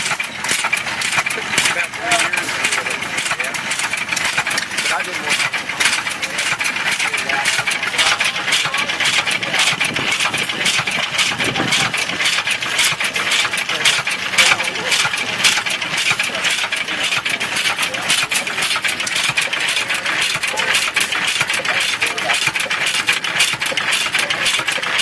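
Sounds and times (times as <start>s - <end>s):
sharp clicks and clatter: 0.0s - 25.0s
stationary gas engine running: 0.0s - 25.0s.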